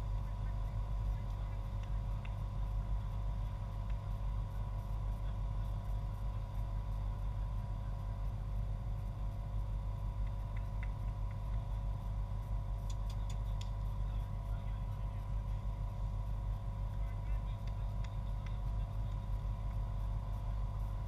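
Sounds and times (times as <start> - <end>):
faint steady hum: 0.0 - 21.0
low outdoor rumble: 0.0 - 21.0.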